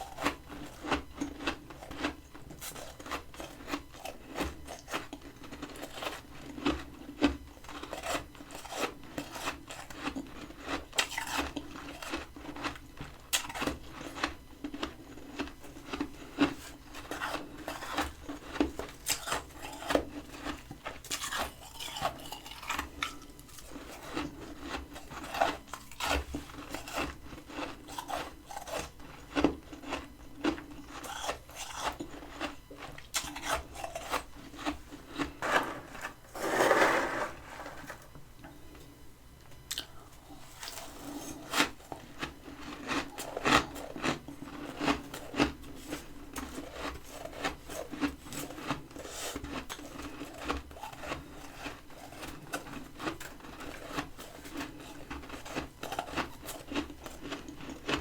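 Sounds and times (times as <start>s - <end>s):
frost crunching as chewed: 0.0s - 38.2s, 39.6s - 58.0s.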